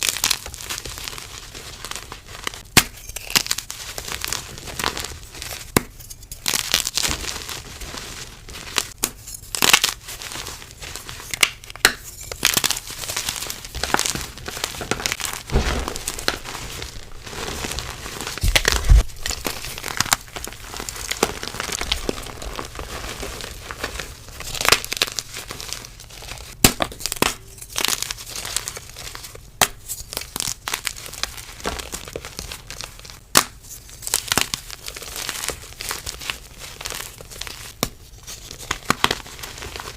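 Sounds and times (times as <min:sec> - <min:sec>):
chalk crumbling and crunching: 0:00.0 - 0:39.9.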